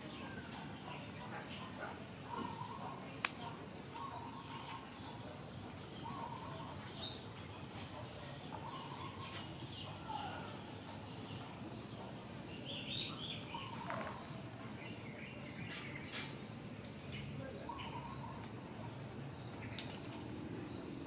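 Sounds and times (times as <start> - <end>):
low background noise: 0.0 - 21.0
small birds chirping: 0.0 - 21.0.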